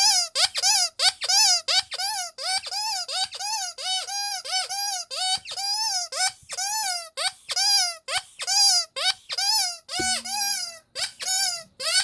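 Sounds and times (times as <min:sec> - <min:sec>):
rubber squeaky toy squeaking: 0:00.0 - 0:12.0.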